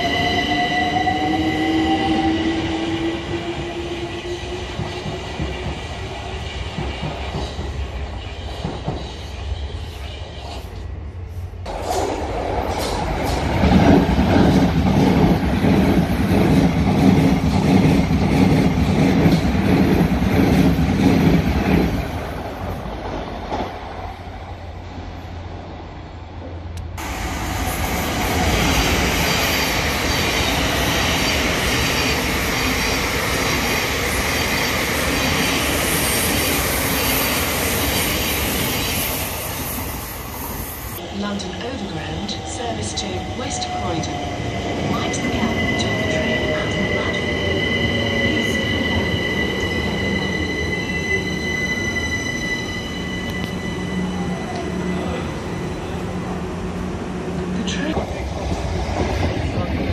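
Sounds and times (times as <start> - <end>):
train wheels rushing on rail: 0.0 - 25.7, 26.4 - 59.9.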